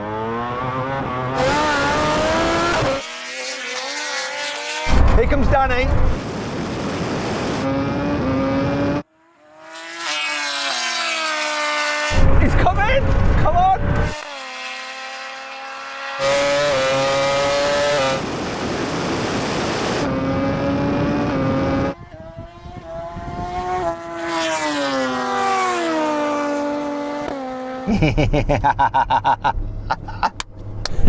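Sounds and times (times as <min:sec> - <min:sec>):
race vehicle engines at full throttle: 0:00.0 - 0:31.0.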